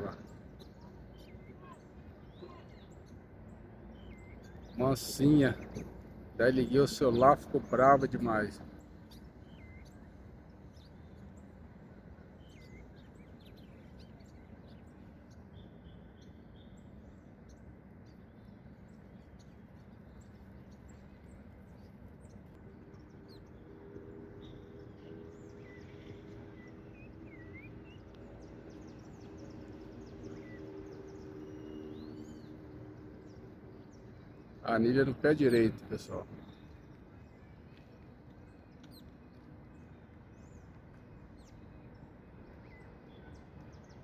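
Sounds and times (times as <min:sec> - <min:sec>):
low droning hum: 0:00.0 - 0:44.0.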